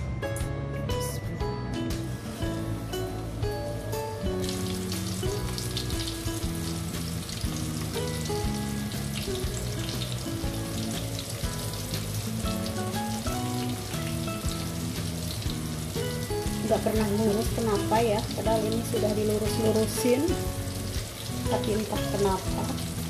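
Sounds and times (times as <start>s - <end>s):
background music: 0.0s - 23.0s
shrimp frying in hot oil: 2.2s - 23.0s.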